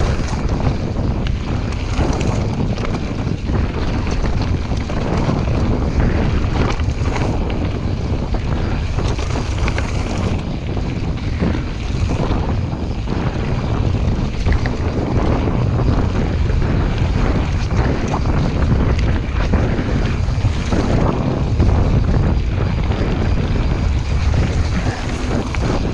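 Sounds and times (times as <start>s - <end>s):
bike clicks and rattles: 0.0s - 25.9s
tyres rumbling on dirt trail: 0.0s - 25.9s
wind buffeting microphone: 0.0s - 25.9s.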